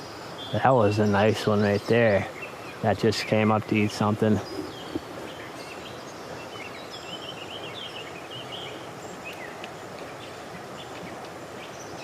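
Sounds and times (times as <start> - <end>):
outdoor background hiss: 0.0 - 12.0
songbirds chirping: 0.0 - 12.0.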